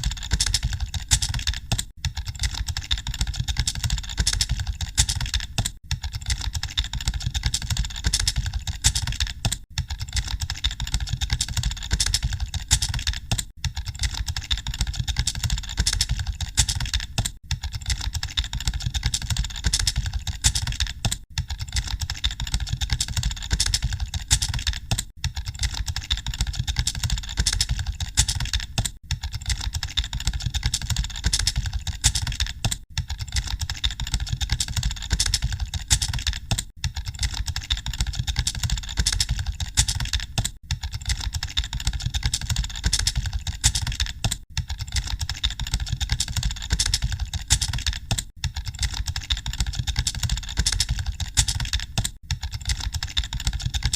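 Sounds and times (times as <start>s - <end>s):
keyboard typing clatter: 0.0s - 53.9s.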